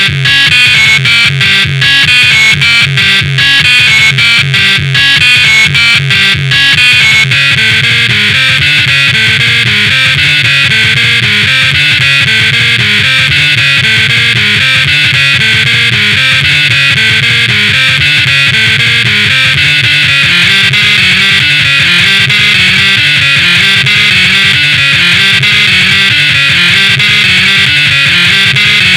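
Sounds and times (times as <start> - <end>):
loud music with repeating bass: 0.0 - 28.9.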